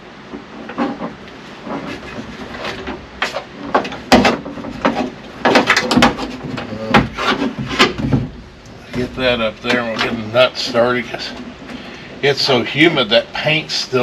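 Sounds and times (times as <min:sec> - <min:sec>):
knocks clicks and rattles of hand work: 0:00.3 - 0:12.0.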